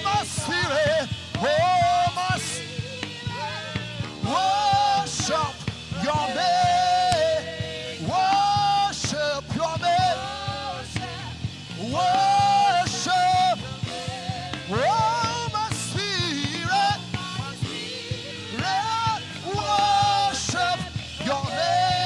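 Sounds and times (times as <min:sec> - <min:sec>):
band accompaniment: 0:00.0 - 0:22.0.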